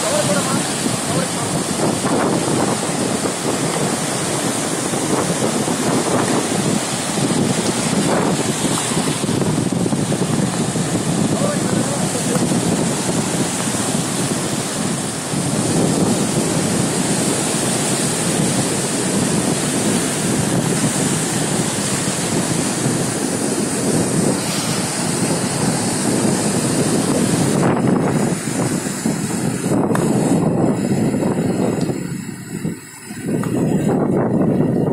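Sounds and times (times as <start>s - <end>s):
rushing river water: 0.0s - 34.9s
wind buffeting microphone: 0.0s - 34.9s.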